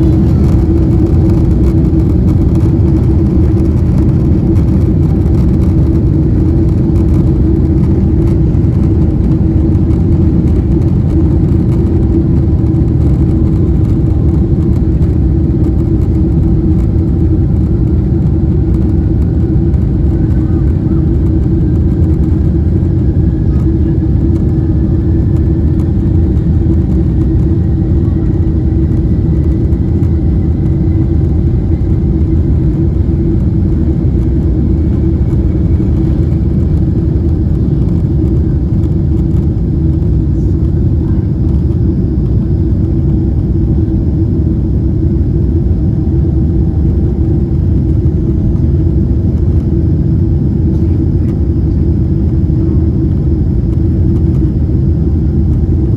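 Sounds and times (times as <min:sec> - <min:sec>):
jet engines roaring at takeoff: 0:00.0 - 0:55.9.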